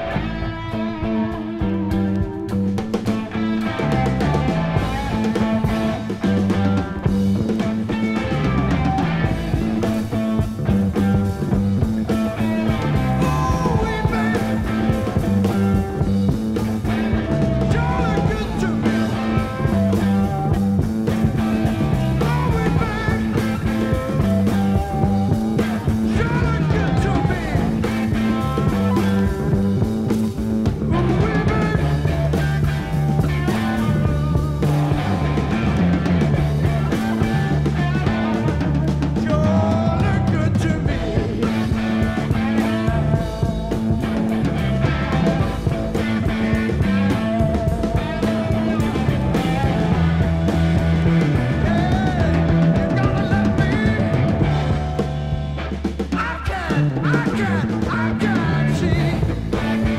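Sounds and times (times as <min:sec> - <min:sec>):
blues-rock band playing: 0:00.0 - 0:59.9.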